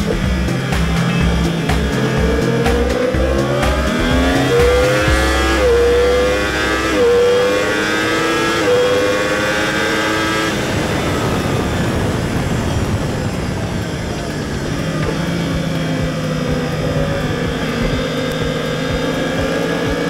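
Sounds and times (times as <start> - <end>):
motorcycle engine at full throttle: 0.0 - 20.0
wind rush at high speed: 0.0 - 20.0.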